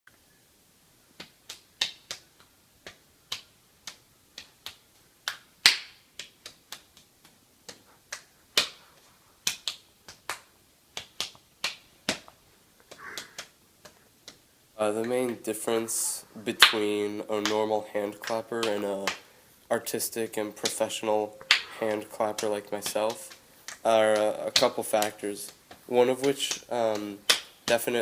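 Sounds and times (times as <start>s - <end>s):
sharp hand claps: 1.2s - 14.4s, 16.5s - 19.3s, 20.6s - 28.0s.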